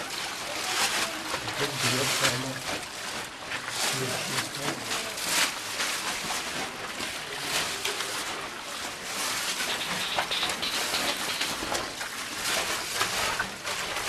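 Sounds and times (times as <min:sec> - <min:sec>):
feet splashing through stream: 0:00.0 - 0:14.0
water rushing: 0:00.0 - 0:14.0.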